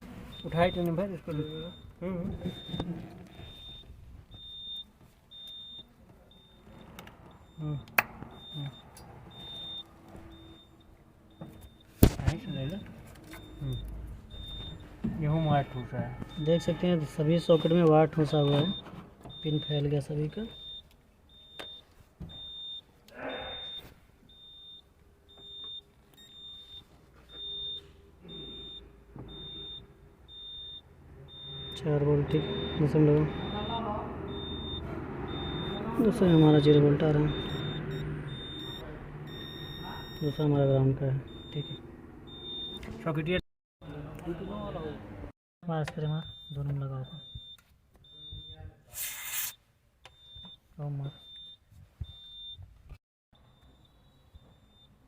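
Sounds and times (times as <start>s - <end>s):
electronic warning beeps: 0.2s - 42.9s, 43.8s - 45.0s, 45.8s - 52.6s, 53.4s - 55.0s.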